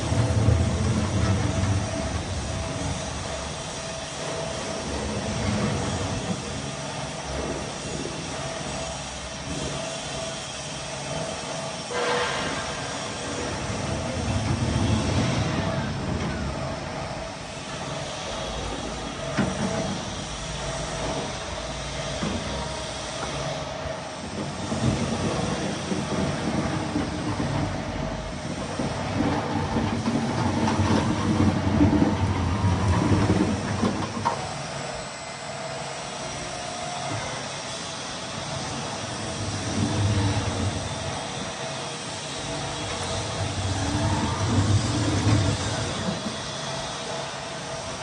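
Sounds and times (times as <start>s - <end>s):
electric pallet truck rumbling: 0.0s - 48.0s
faint constant whine: 0.0s - 48.0s.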